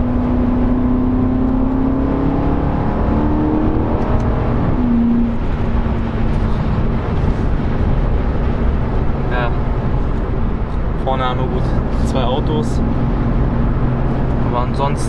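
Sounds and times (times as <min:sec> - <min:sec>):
car engine droning while driving: 0:00.0 - 0:15.0.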